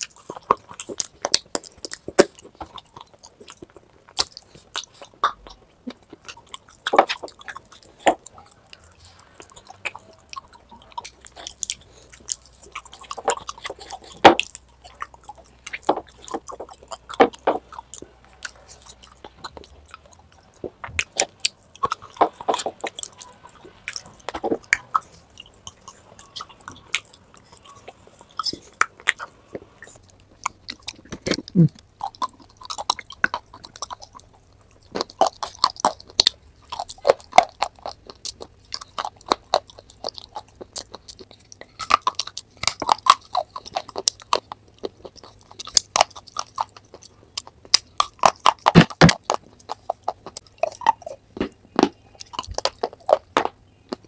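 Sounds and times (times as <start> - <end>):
food crunching: 0.0 - 54.0
wet chewing clicks: 0.0 - 54.0.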